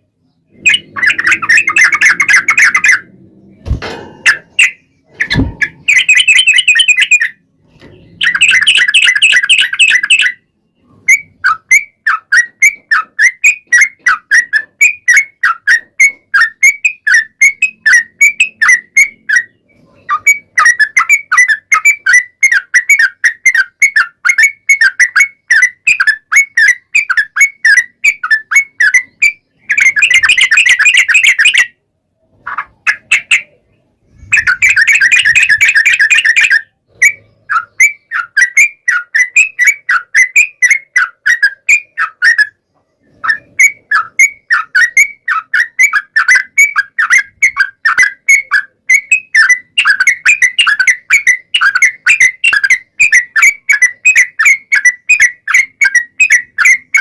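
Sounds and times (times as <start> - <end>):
bulbul singing: 0.0 - 31.8, 32.5 - 57.0.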